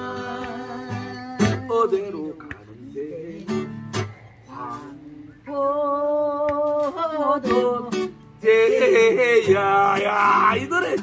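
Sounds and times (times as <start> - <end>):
acoustic guitar: 0.0 - 11.0
person singing: 0.0 - 11.0.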